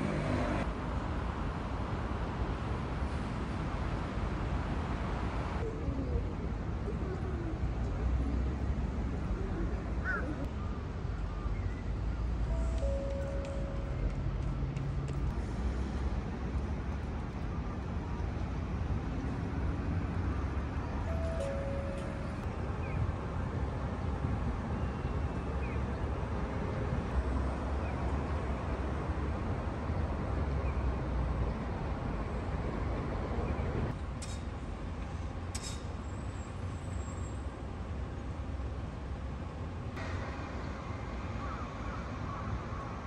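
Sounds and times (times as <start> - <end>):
city traffic rumble: 0.0 - 43.0.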